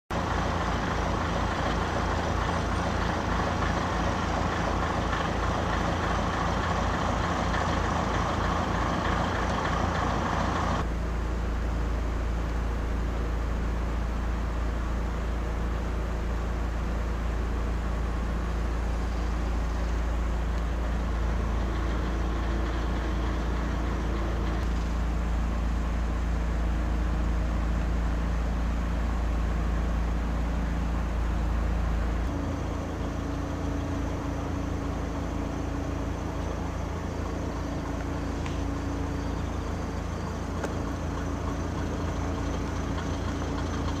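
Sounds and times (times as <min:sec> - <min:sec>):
diesel engine drone: 0:00.0 - 0:44.0.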